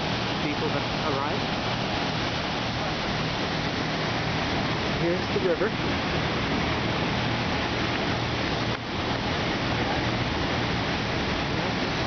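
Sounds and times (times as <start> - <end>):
low turbine hum: 0.0 - 12.0
river water rushing over rocks: 0.0 - 12.0.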